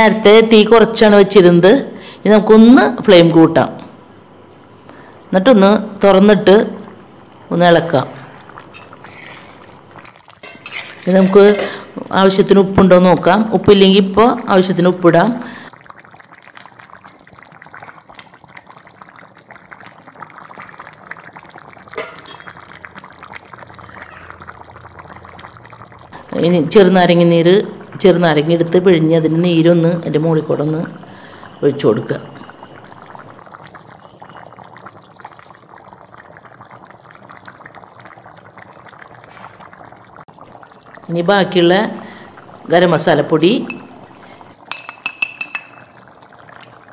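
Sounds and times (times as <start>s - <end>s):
curry bubbling in a pan: 6.4s - 46.9s.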